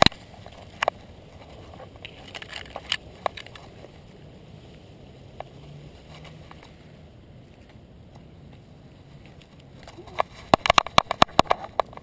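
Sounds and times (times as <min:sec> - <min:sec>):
camera brushing through plants: 0:00.0 - 0:12.0.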